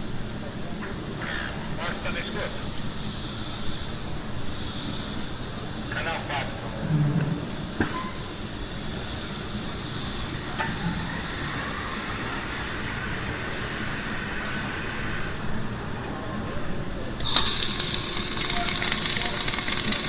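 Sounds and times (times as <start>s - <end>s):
machinery hiss and hum: 0.0s - 20.0s.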